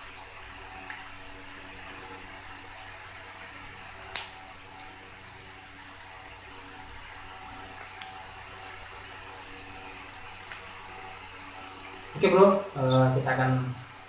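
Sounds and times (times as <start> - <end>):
room noise hiss: 0.0 - 14.0.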